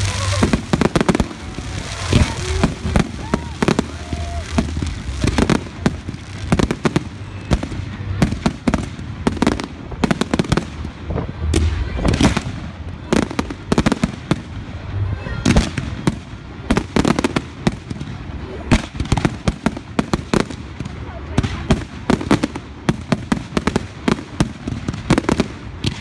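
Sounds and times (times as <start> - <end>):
constant rushing hiss: 0.0 - 26.0
fireworks bangs and crackles: 0.0 - 26.0.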